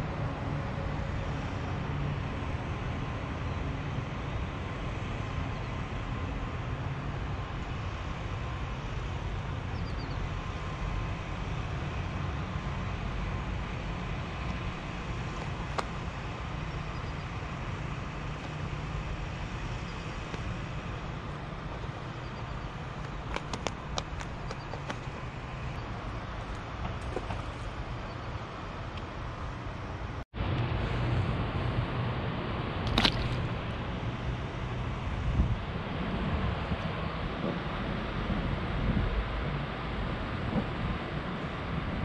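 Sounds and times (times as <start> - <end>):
outdoor rumble and hiss: 0.0 - 42.0.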